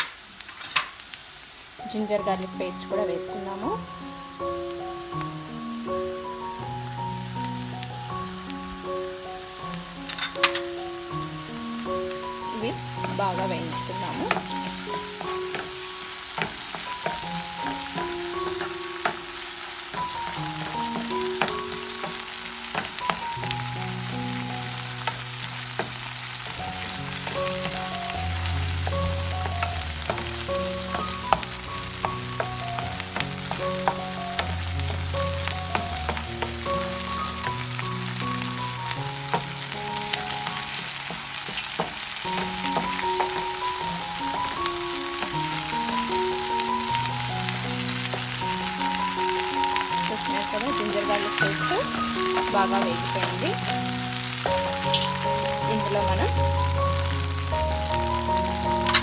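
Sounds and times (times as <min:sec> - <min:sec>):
food sizzling in frying pan: 0:00.0 - 0:59.0
background melody: 0:01.8 - 0:59.0.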